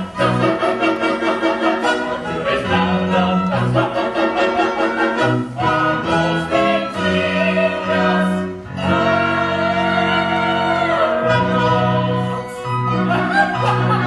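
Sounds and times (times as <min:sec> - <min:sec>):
operetta singers with accompaniment: 0:00.0 - 0:14.0.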